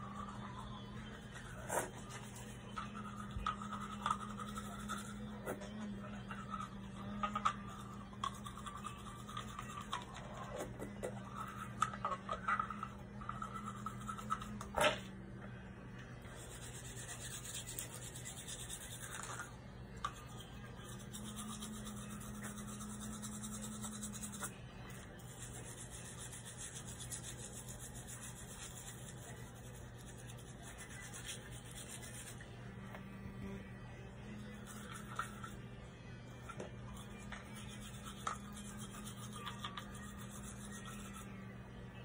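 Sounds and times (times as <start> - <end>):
toothbrush scrubbing teeth: 0.0 - 14.8, 16.2 - 33.2, 34.3 - 41.8.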